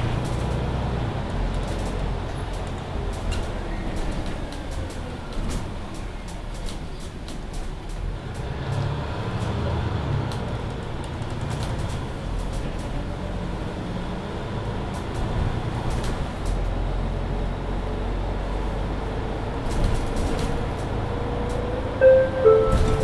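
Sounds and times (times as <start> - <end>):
bus drivetrain rumble: 0.0 - 23.0.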